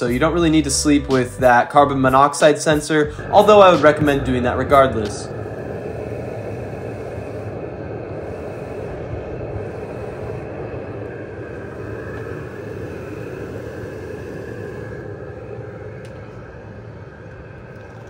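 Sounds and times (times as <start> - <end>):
faint steady whine: 0.0 - 18.0
heater blower whirring: 0.0 - 18.0.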